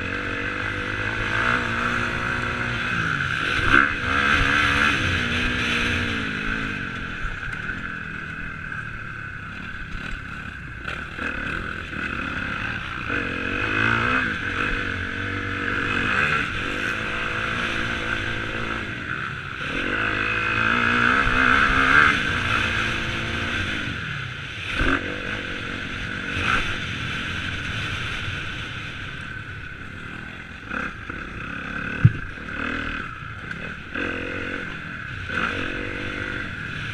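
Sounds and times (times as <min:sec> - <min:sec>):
motocross bike engines revving: 0:00.0 - 0:36.9.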